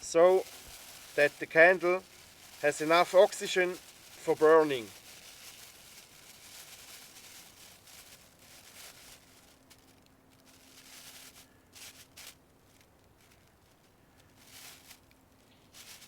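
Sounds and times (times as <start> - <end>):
plastic sheet rustling and crinkling: 0.0 - 16.0.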